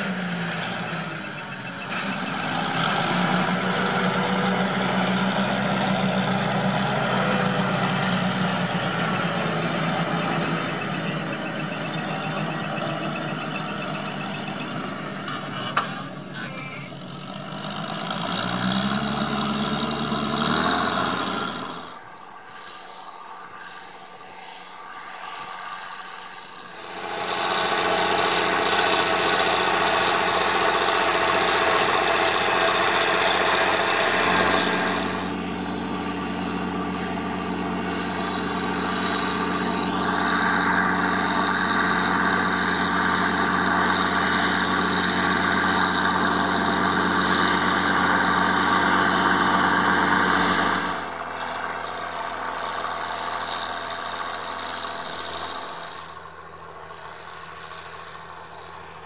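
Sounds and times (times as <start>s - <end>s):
tractor diesel engine running hard: 0.0s - 59.0s.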